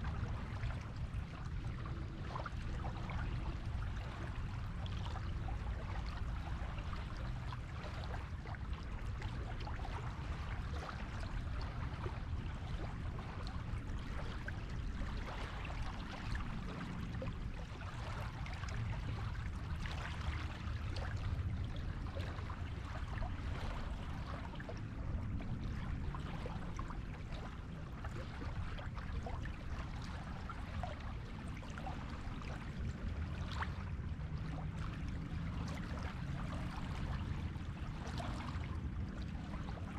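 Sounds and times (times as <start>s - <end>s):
waves washing on a beach: 0.0s - 39.9s.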